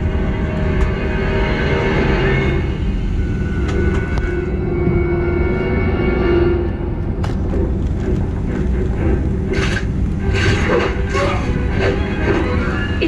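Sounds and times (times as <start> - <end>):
airliner cabin rumble: 0.0 - 13.0
low hum: 0.0 - 13.0.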